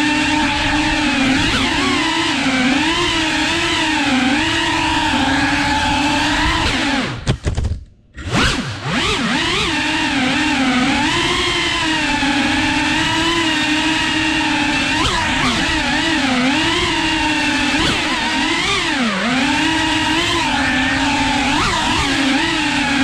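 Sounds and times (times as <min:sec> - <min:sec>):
drone motors whining: 0:00.0 - 0:07.3, 0:08.2 - 0:23.0.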